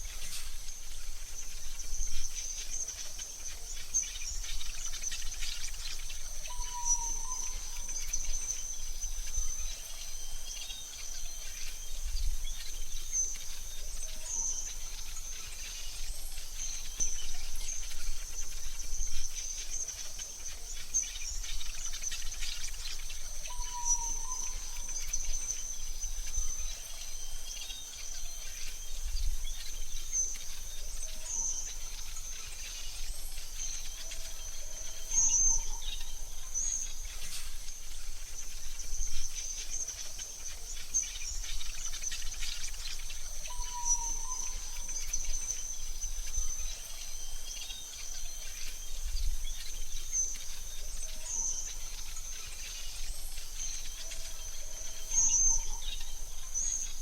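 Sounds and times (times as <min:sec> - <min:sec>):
bird calls: 0:00.0 - 0:57.0
high-pitched insect trill: 0:00.0 - 0:57.0.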